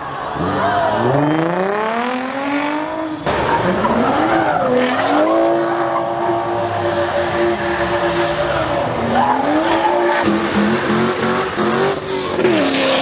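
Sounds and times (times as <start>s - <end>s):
tyres spinning and skidding: 0.0s - 13.0s
car engine revving: 0.1s - 13.0s.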